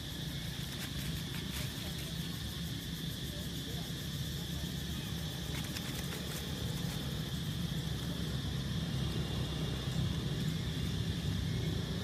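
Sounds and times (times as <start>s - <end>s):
high insect drone: 0.0s - 12.0s
vehicle engine rumble: 0.0s - 12.0s.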